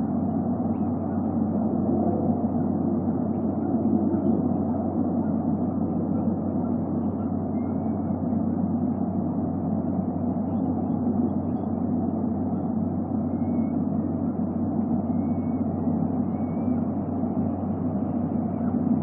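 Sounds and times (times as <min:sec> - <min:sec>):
low background rumble: 0:00.0 - 0:19.0
low hum: 0:00.0 - 0:19.0.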